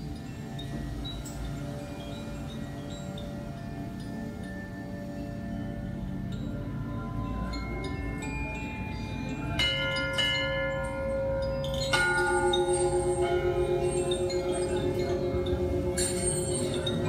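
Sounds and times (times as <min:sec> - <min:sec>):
low throbbing ringing tone: 0:00.0 - 0:17.0
struck bells ringing: 0:00.0 - 0:17.0.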